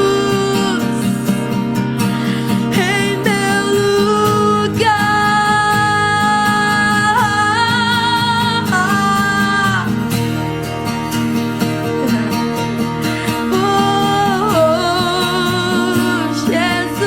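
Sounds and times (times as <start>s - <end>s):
guitar-led accompaniment: 0.0s - 17.0s.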